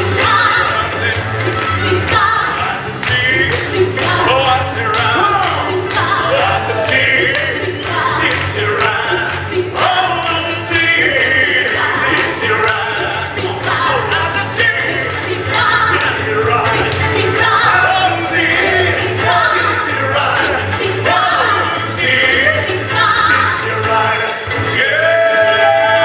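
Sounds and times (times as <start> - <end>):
steady bass accompaniment: 0.0 - 26.0
voices singing: 0.0 - 26.0.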